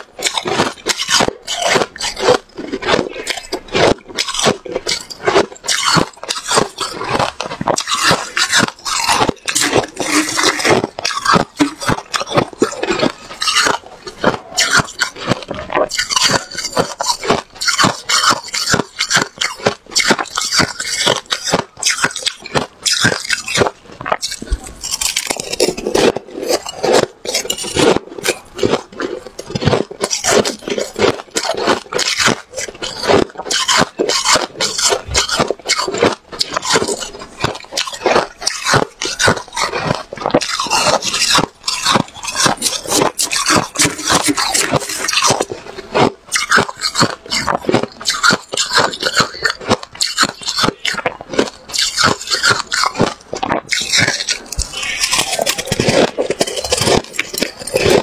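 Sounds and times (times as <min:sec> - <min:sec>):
ice crunching being chewed: 0:00.0 - 0:58.0
metal spoon scraping ice: 0:00.2 - 0:58.0.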